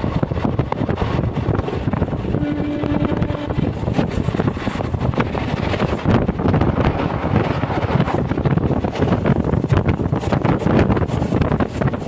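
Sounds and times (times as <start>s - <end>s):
train rumbling and rattling: 0.0s - 12.0s
wind buffeting microphone: 0.0s - 12.0s.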